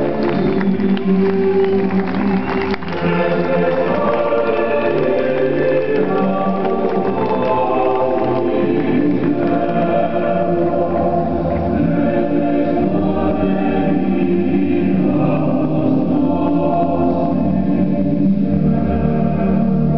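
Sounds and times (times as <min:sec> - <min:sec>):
choir singing sustained chords: 0:00.0 - 0:19.9.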